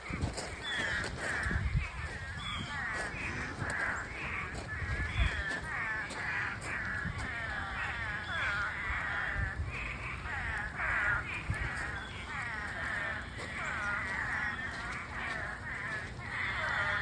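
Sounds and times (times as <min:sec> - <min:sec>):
crow-like cawing calls: 0:00.0 - 0:17.0.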